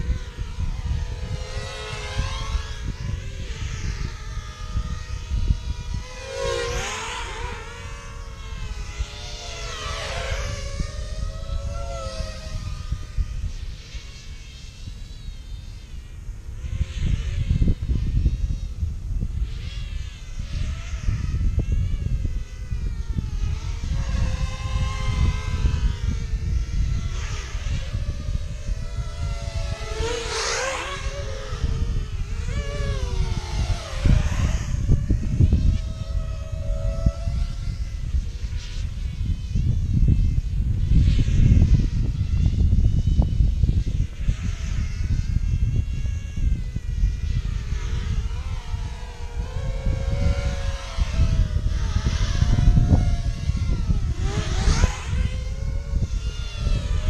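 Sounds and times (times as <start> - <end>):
quadcopter motors whining: 0.0 - 57.0
wind buffeting microphone: 0.0 - 57.0.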